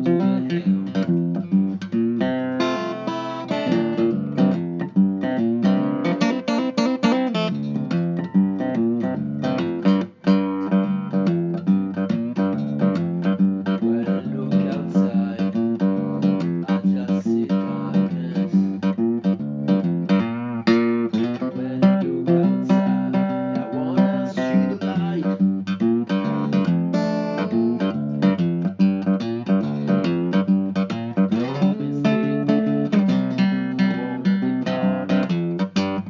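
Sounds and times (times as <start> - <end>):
guitar picked and strummed: 0.0 - 36.0.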